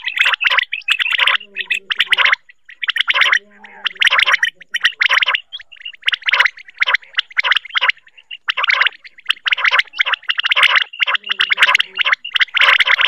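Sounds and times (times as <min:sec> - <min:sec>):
quail calling: 0:00.0 - 0:13.0.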